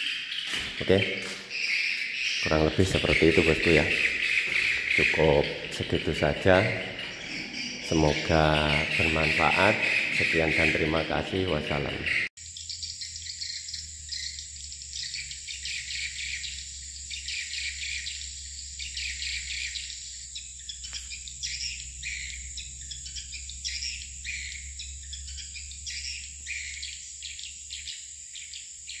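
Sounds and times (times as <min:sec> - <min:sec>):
swiftlet chirpy twittering: 0:00.0 - 0:29.0.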